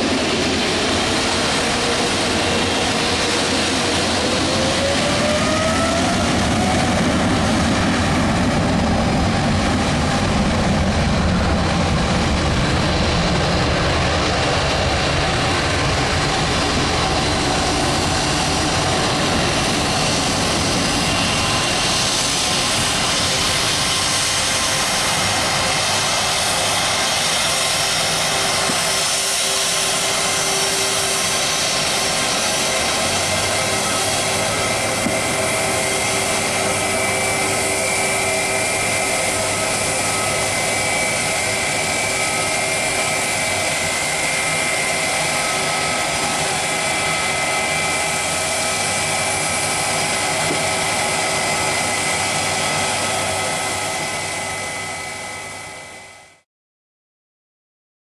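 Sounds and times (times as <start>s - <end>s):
jet engines roaring: 0.0s - 56.4s.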